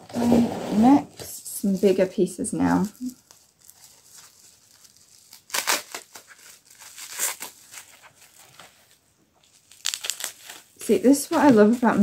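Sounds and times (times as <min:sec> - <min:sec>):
paper wrap crinkling: 0:00.0 - 0:12.0.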